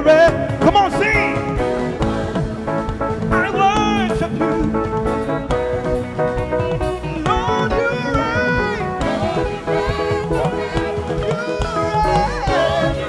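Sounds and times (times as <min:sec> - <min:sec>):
gospel band playing: 0:00.0 - 0:13.0.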